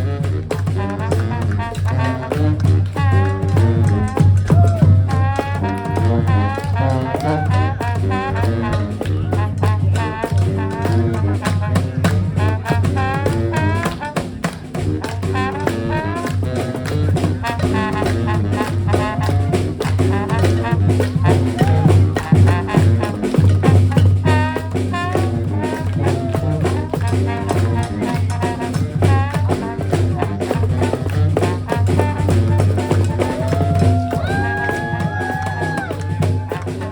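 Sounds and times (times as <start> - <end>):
brass band playing: 0.0 - 36.9.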